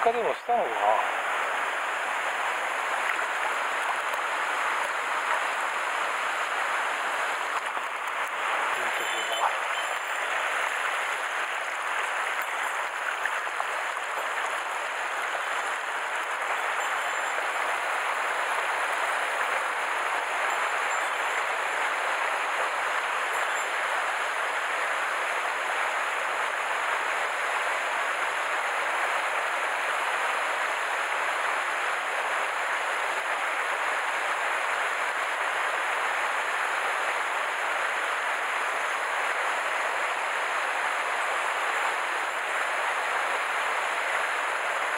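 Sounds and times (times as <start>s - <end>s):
water rushing over rocks: 0.0s - 44.9s.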